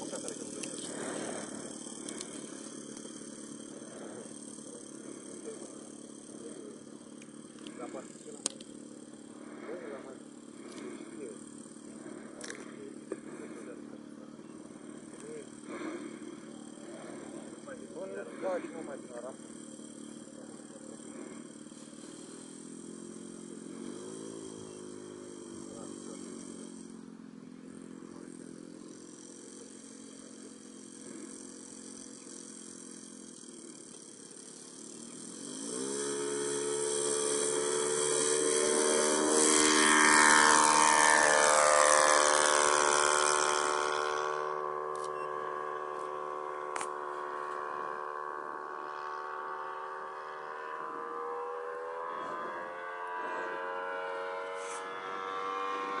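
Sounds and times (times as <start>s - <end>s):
model airplane motor and propeller: 0.0s - 56.0s.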